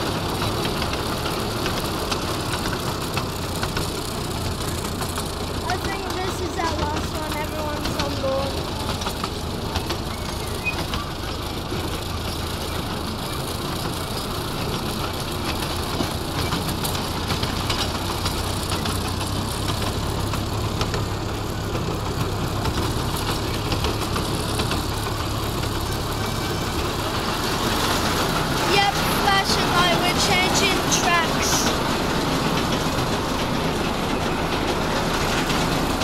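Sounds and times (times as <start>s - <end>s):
low engine hum: 0.0s - 36.0s
wheels on rails: 0.0s - 36.0s.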